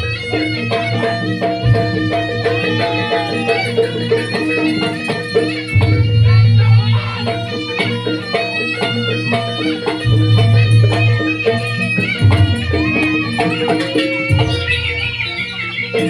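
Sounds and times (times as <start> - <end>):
steady percussion: 0.0 - 16.0.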